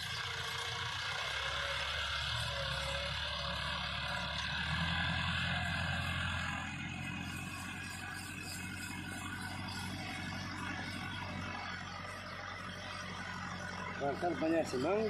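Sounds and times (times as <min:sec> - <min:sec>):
distant tractor diesel engine: 0:00.0 - 0:15.0.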